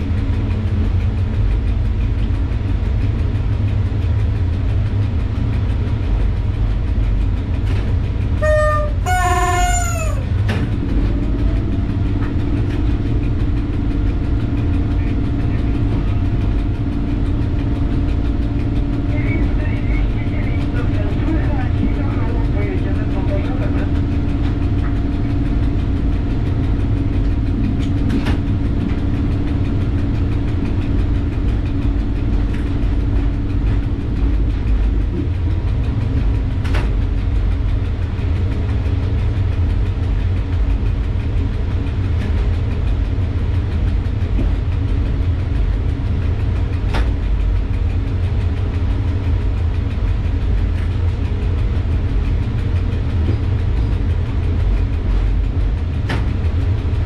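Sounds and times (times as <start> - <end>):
locomotive cab rumble: 0.0 - 57.0.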